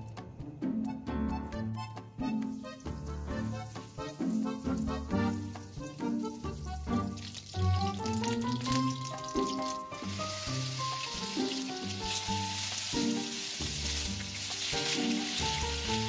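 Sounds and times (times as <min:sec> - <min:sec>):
background music with melody: 0:00.0 - 0:16.0
chicken sizzling in frying pan: 0:02.8 - 0:16.0.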